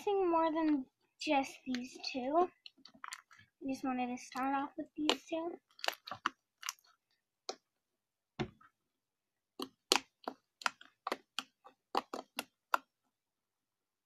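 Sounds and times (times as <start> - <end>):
slime kneaded by hand: 0.2 - 13.5.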